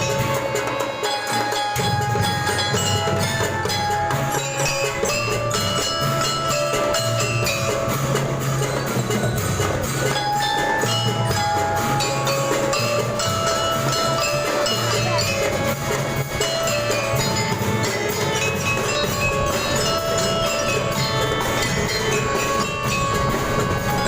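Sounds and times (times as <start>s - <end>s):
bell lyre melody: 0.0s - 24.0s
drums beating: 0.0s - 24.0s.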